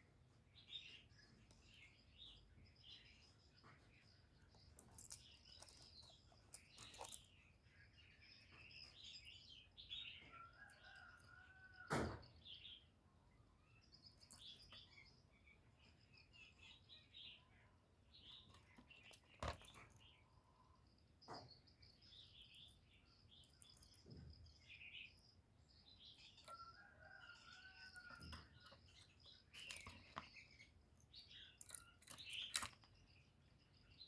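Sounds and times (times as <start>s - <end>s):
small birds chirping and trilling: 0.0s - 34.0s.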